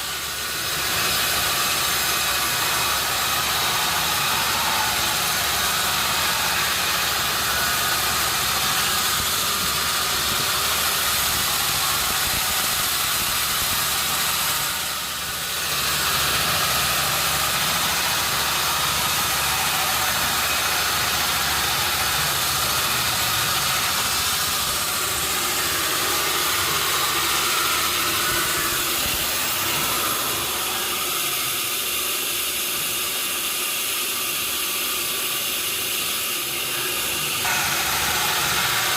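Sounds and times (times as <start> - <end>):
sawmill engine drone: 0.0 - 38.9.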